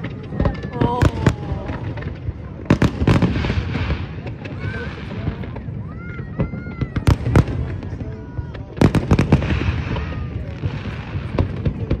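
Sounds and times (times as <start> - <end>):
firework crackling shower: 0.0 - 12.0.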